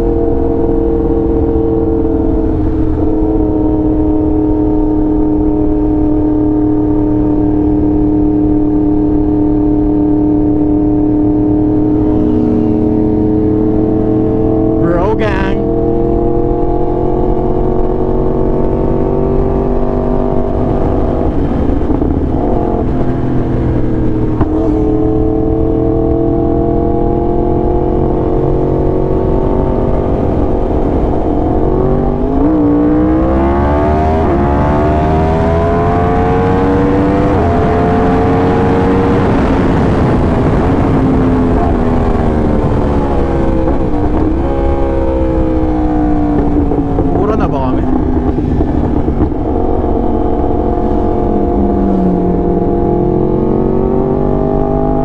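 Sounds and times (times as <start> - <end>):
motorcycle engine accelerating: 0.0 - 55.0
wind and road noise: 0.0 - 55.0.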